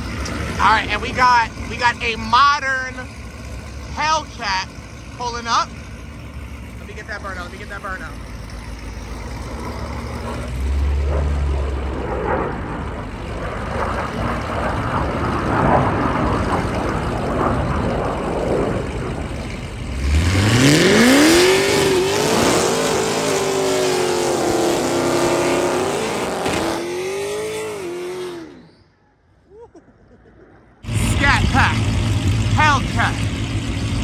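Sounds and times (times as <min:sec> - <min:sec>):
car engine revving: 0:00.0 - 0:28.9, 0:30.8 - 0:34.0.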